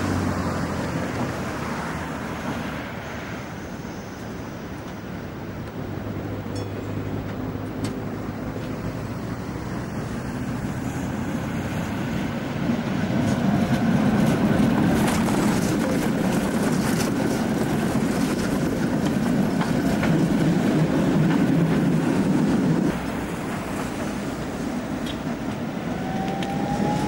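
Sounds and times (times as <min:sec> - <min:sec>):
tram rumbling past: 0:00.0 - 0:27.0
wheels clicking on track: 0:04.0 - 0:27.0.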